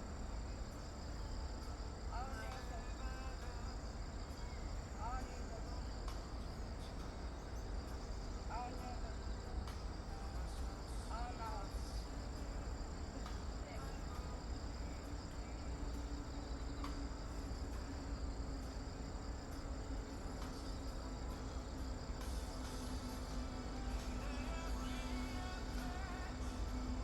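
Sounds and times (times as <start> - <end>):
constant low rumble: 0.0 - 27.0
insects chirping: 0.0 - 27.0.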